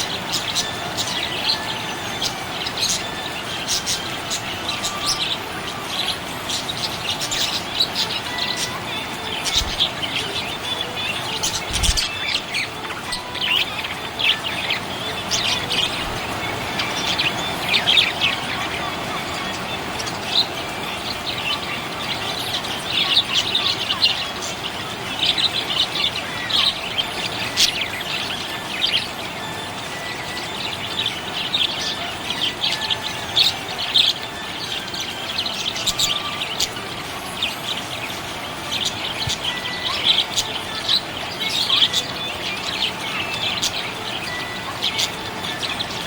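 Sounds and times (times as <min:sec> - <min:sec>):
parrots chirping: 0:00.0 - 0:46.0.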